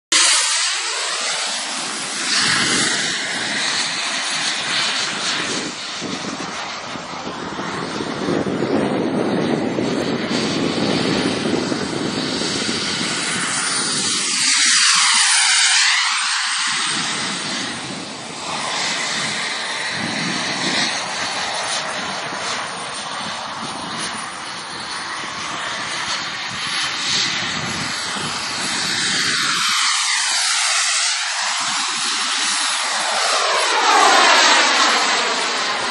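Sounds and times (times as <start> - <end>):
fighter jet engine passing: 0.1 - 35.9.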